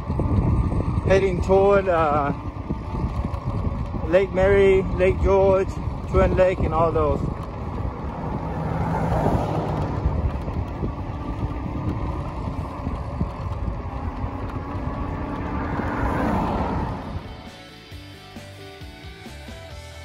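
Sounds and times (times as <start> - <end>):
wind rushing: 0.0 - 17.5
road noise: 0.0 - 20.0.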